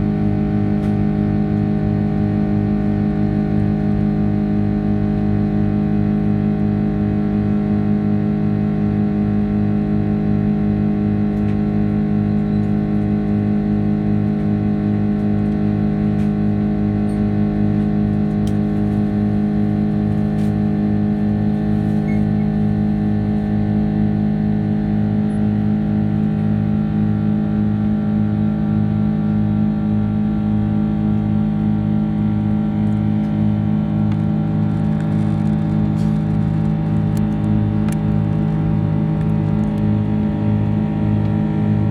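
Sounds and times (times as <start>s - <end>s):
jet engine drone in cabin: 0.0s - 41.9s
throbbing low hum: 0.0s - 41.9s.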